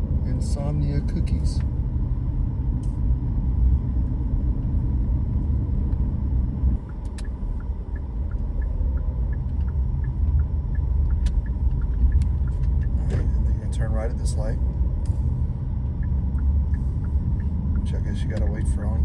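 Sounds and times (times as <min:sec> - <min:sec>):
road rumble inside car: 0:00.0 - 0:19.0
turn signal ticking: 0:00.0 - 0:19.0.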